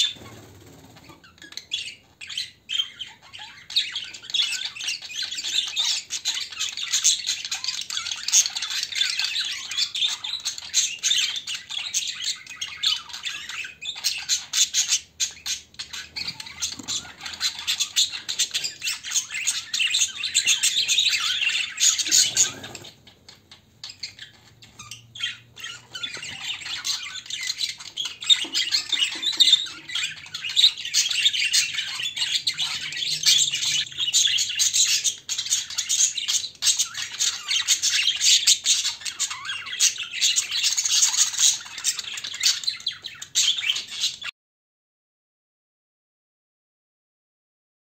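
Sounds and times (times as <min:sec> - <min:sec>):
budgerigars chattering: 0:00.0 - 0:44.3.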